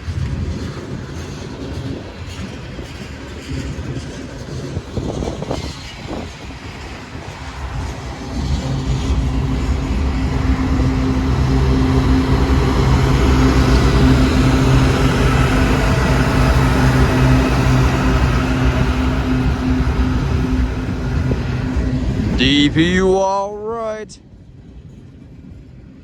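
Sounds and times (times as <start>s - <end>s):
train wheel clatter: 0.0s - 22.2s
diesel locomotive engine drone: 0.0s - 26.0s.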